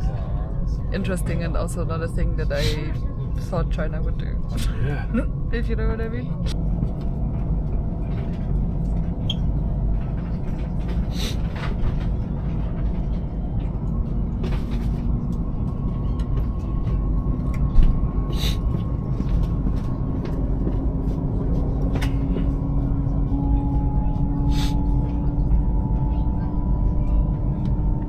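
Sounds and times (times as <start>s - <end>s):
train running low rumble: 0.0s - 28.0s.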